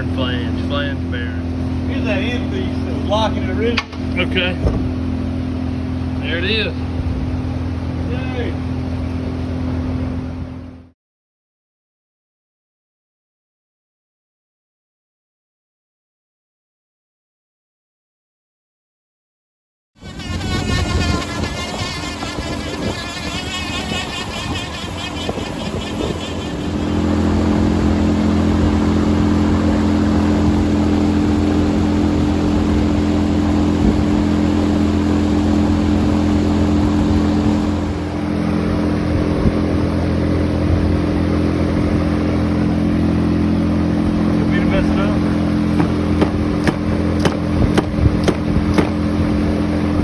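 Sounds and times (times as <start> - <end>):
engine running: 0.0 - 10.9, 20.0 - 50.0.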